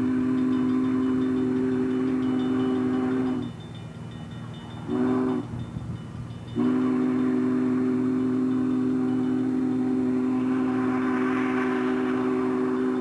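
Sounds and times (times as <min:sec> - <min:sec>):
low rumble of train: 0:00.0 - 0:13.0
steam locomotive chime whistle: 0:00.0 - 0:13.0.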